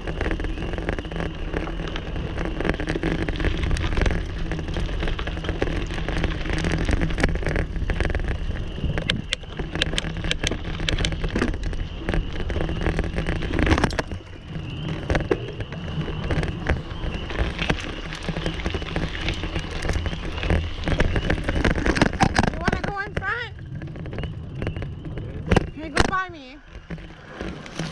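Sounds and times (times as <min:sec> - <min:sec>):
bicycle rattling and clicking: 0:00.0 - 0:27.9
wind buffeting microphone: 0:00.0 - 0:27.9.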